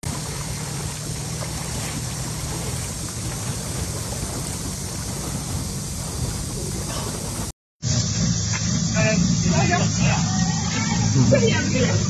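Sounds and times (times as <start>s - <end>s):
boat rushing over water: 0.0s - 12.0s
wind noise: 0.0s - 12.0s.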